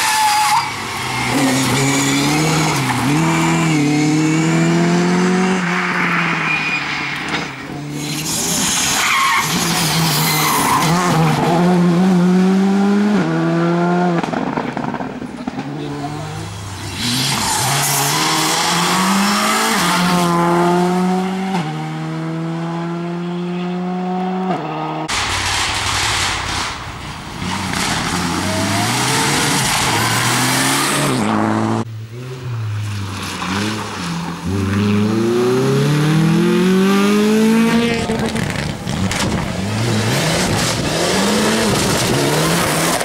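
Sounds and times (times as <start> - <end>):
rally car engines revving past: 0.7 - 25.1, 27.4 - 43.0.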